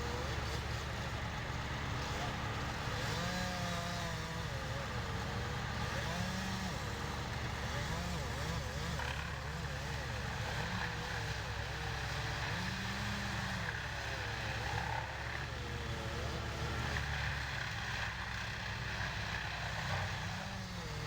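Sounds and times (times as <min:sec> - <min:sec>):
large engine running: 0:00.0 - 0:21.0.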